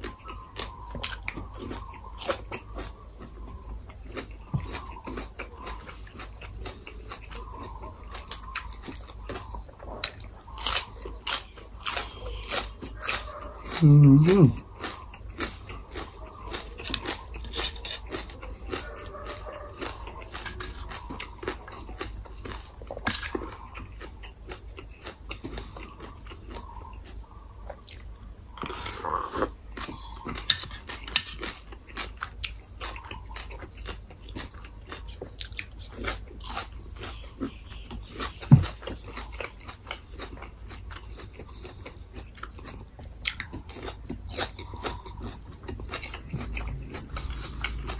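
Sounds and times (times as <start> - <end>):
person chewing and crunching food: 0.0 - 47.9.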